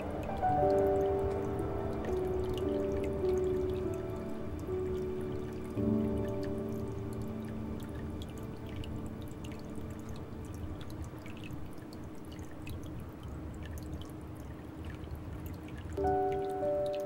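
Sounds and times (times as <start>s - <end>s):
soft music tones: 0.0s - 17.0s
water trickling into pond: 0.0s - 17.0s.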